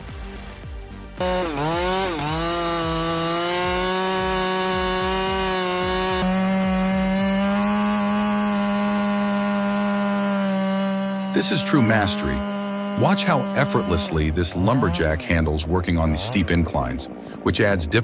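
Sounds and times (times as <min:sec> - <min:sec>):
chainsaw cutting wood: 0:00.0 - 0:17.5.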